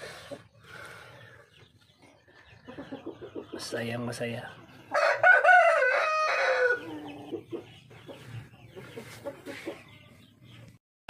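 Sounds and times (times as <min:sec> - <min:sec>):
chickens clucking softly: 0:00.0 - 0:10.8.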